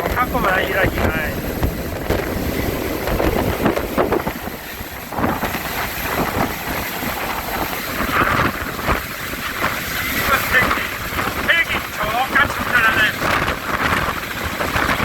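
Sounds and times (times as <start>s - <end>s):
helicopter rotor and engine: 0.0s - 15.0s
wind buffeting microphone: 0.0s - 15.0s.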